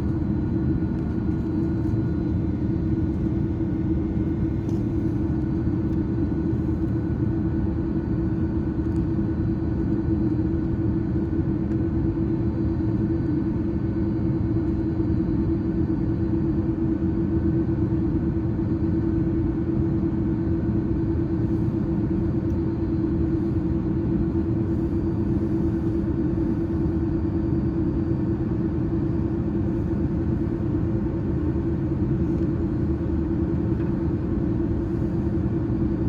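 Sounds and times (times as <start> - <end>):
airliner cabin engine roar: 0.0 - 36.0.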